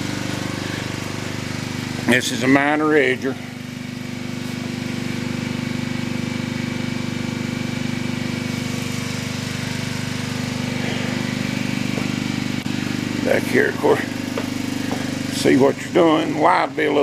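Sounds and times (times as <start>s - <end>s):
sawmill machinery drone: 0.0s - 17.0s.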